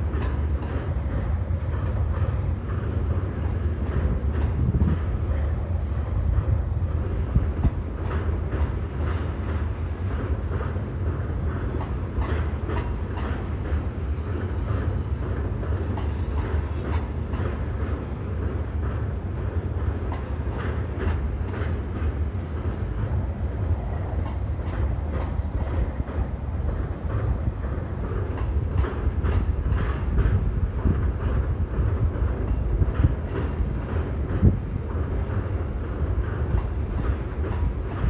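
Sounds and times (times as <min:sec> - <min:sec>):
freight train rumbling over bridge: 0:00.0 - 0:38.0
wheels clacking over rail joints: 0:00.0 - 0:38.0.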